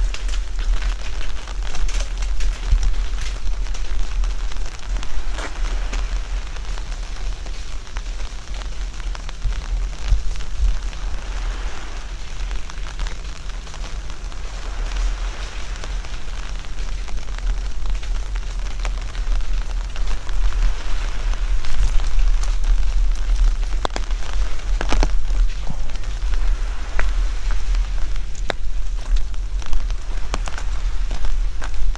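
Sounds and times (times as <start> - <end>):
low rumble: 0.0 - 31.9
steady rain falling: 0.0 - 31.9.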